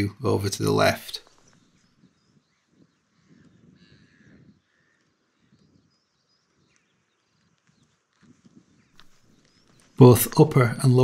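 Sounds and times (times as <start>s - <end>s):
faint distant bird call: 1.2s - 11.0s.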